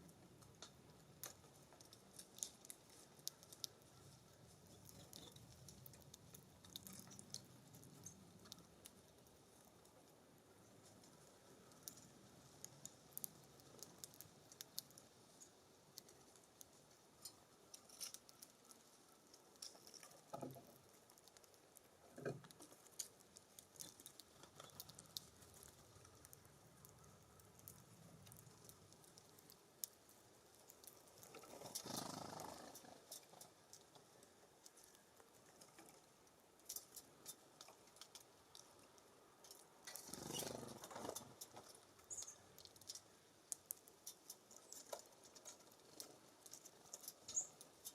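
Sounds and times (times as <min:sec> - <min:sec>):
birds pecking seed on wood: 0:00.0 - 0:47.9.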